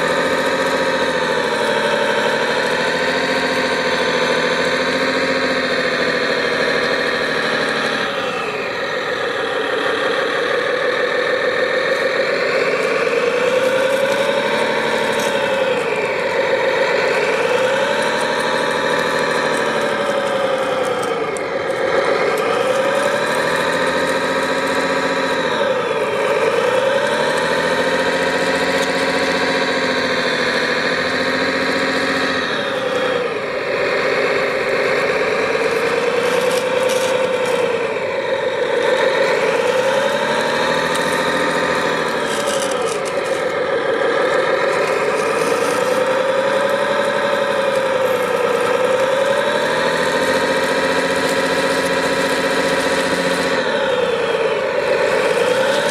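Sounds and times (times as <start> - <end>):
toy bulldozer engine revving: 0.0 - 55.9.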